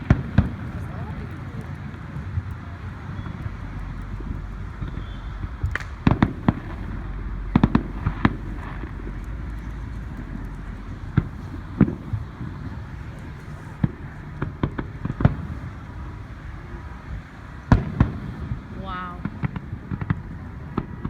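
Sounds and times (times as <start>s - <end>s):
fireworks cracking pops: 0.0s - 21.0s
steady outdoor rumble: 0.0s - 21.0s.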